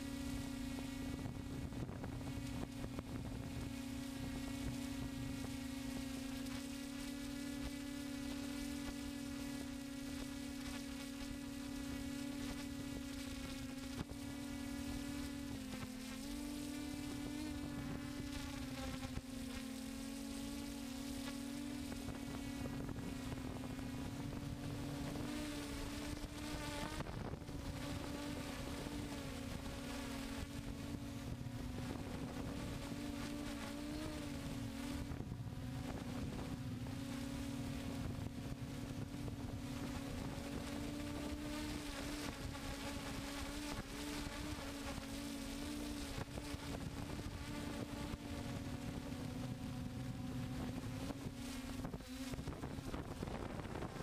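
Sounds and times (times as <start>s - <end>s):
drone propellers buzzing: 0.0s - 54.0s
wind noise: 0.0s - 54.0s.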